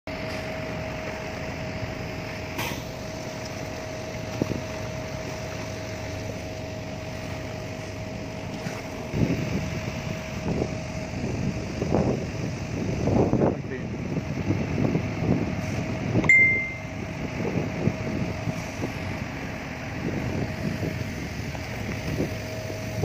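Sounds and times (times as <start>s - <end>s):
boat engine running: 0.1s - 23.0s.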